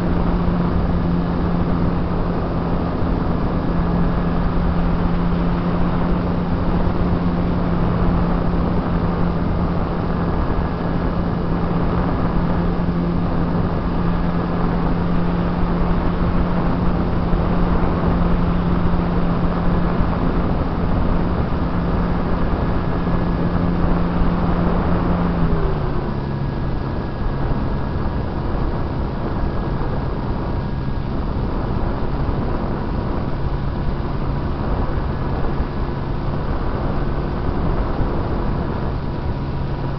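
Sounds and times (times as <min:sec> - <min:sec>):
model plane motor and propeller: 0:00.0 - 0:39.9
wind rush: 0:00.0 - 0:39.9.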